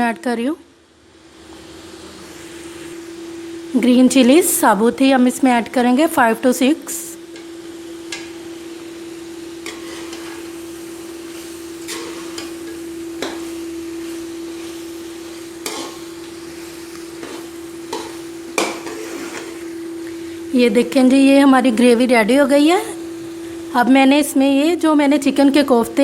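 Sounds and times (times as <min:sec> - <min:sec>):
gravy sizzling: 0:01.0 - 0:26.0
constant hum: 0:02.6 - 0:26.0.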